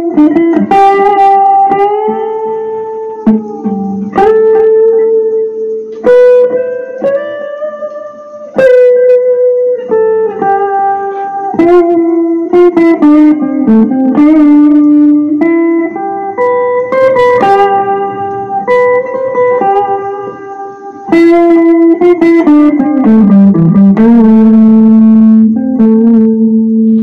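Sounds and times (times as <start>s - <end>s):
electric guitar lead melody: 0.0s - 27.0s.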